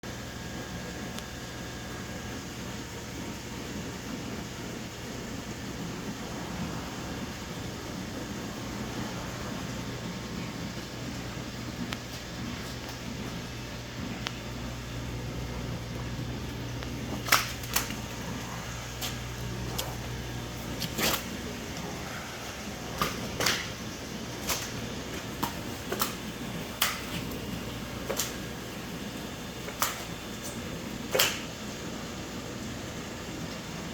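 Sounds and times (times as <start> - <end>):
low machine hum: 0.0 - 33.9.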